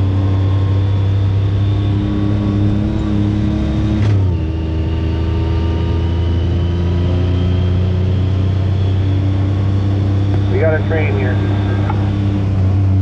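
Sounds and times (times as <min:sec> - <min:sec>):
utv engine droning: 0:00.0 - 0:13.0.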